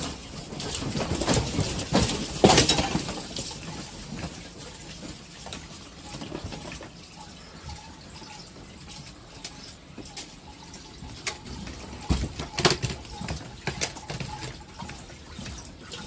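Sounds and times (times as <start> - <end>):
plastic tubs and shelving rattling: 0.0 - 16.0.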